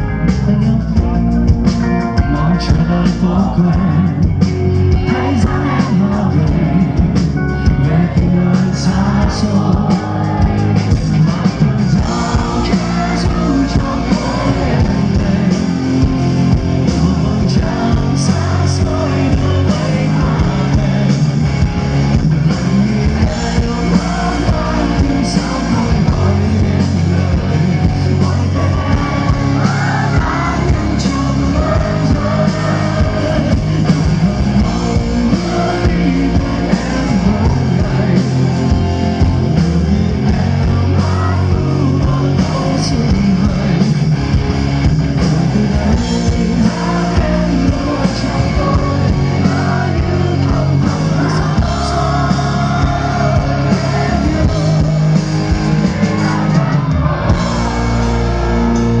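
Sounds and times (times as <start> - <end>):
drums: 0.0 - 59.0
electric guitars: 0.0 - 59.0
man singing: 0.0 - 59.0.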